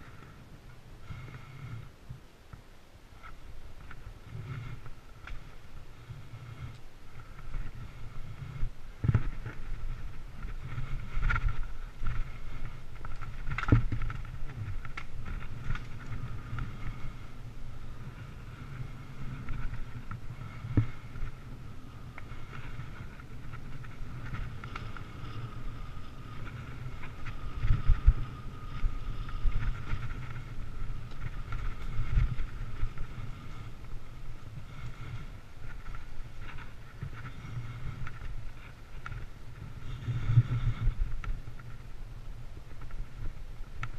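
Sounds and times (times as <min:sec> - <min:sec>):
bike rumbling over dirt trail: 0:03.3 - 0:43.9.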